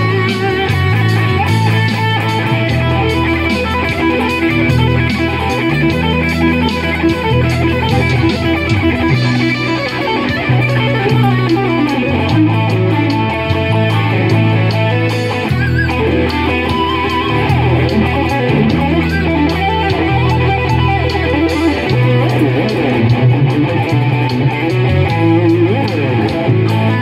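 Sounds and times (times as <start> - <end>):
bass line: 0.0 - 27.0
electric guitar lead with vibrato: 0.0 - 27.0
slow blues backing track: 0.0 - 27.0.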